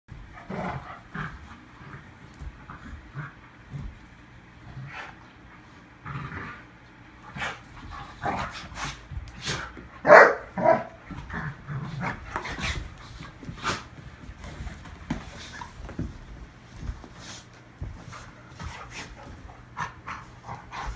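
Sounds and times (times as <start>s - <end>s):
dogs growling playfully: 0.1s - 20.9s.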